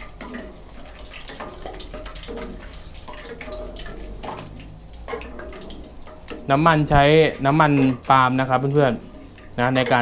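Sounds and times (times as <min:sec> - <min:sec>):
chillies sizzling in hot oil: 0:00.0 - 0:10.0
wooden spatula stirring: 0:00.0 - 0:10.0.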